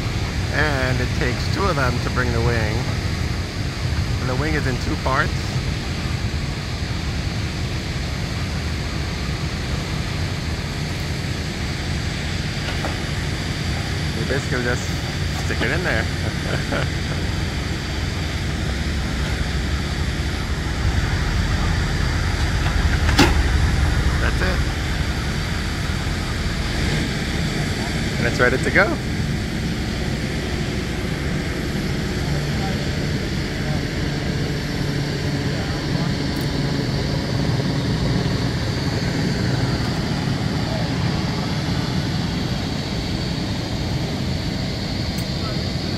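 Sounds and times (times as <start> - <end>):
faint high whine: 0.0 - 45.9
low outdoor rumble: 0.0 - 45.9.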